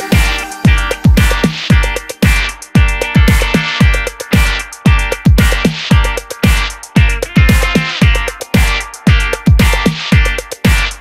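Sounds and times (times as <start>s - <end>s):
electronic music with deep kicks: 0.0s - 11.0s.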